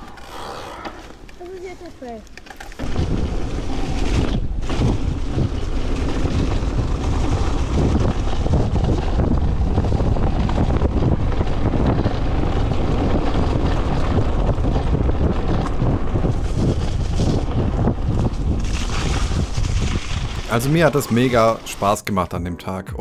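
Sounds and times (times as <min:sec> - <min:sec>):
bike tyres rolling over leaves: 0:00.0 - 0:22.0
wind rushing over microphone: 0:02.8 - 0:22.0.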